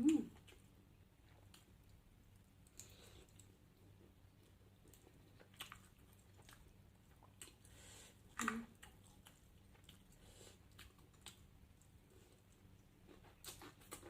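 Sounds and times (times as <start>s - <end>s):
person chewing food: 0.3s - 14.0s.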